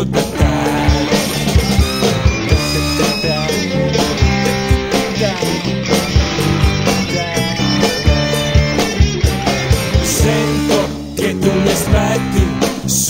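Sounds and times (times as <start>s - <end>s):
rock song with electric guitar: 0.0s - 13.0s
steady drum beat: 0.0s - 13.0s.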